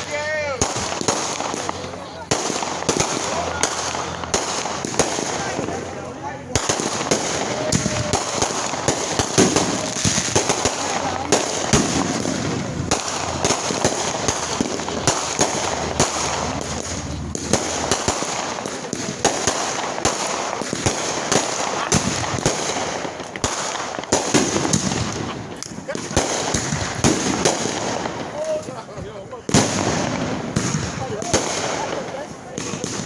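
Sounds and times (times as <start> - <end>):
fireworks bangs and crackles: 0.0 - 33.0
voices: 0.0 - 33.0.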